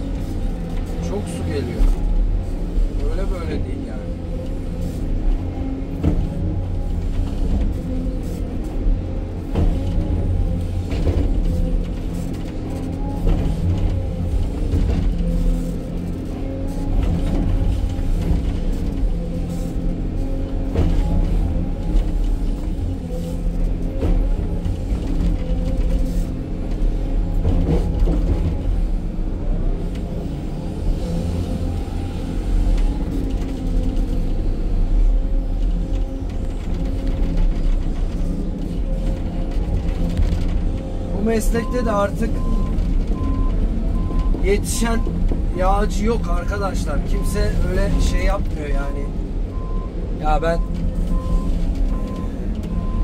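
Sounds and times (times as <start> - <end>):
excavator diesel engine: 0.0 - 53.0.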